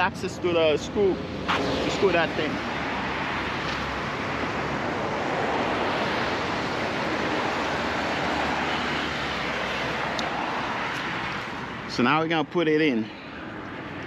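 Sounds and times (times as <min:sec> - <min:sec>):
rushing background noise: 0:00.0 - 0:14.0.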